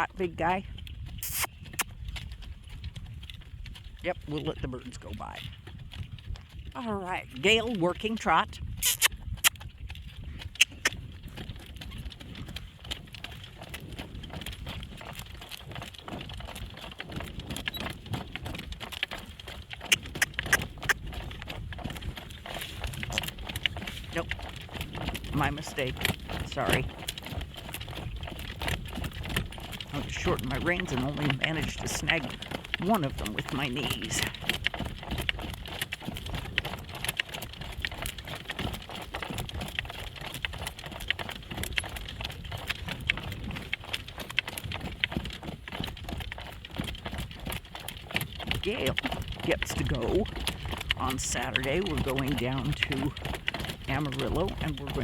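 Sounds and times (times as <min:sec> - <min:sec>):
harness and cart clinking: 0:00.0 - 0:55.0
horse hoofbeats trotting: 0:00.0 - 0:55.0.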